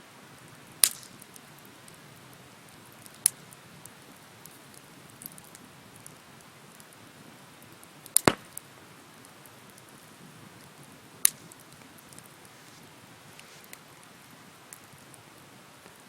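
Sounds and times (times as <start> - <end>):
bonfire hissing and crackling: 0.0 - 16.0
fire popping: 0.3 - 16.0.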